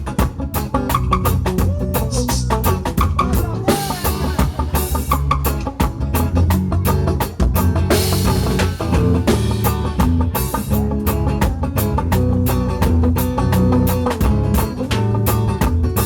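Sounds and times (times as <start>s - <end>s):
band playing: 0.0s - 16.0s
steady bass: 0.0s - 16.0s.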